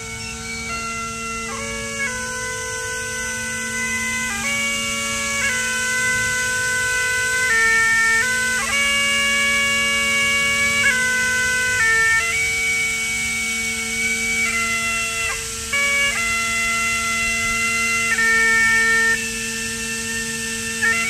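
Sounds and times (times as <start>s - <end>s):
bagpipes playing slow melody: 0.0s - 21.0s.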